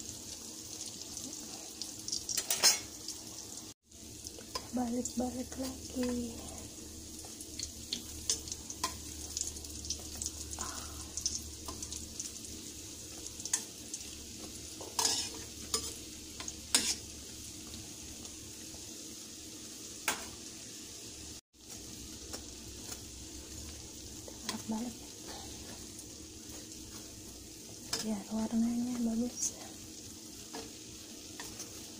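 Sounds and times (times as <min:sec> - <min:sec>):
dough sizzling in hot oil: 0:00.0 - 0:31.9.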